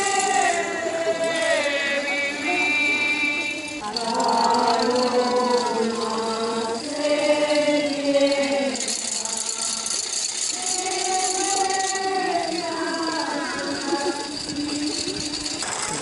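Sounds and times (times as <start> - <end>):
crowd singing a hymn: 0.0 - 16.0
rattle shaking: 0.0 - 16.0.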